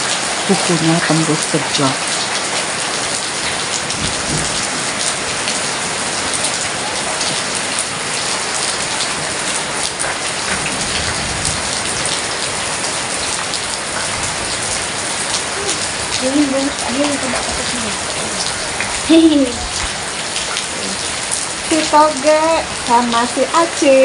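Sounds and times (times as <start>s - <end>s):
heavy rain: 0.0s - 24.0s
raindrops spattering on surfaces: 0.0s - 24.0s.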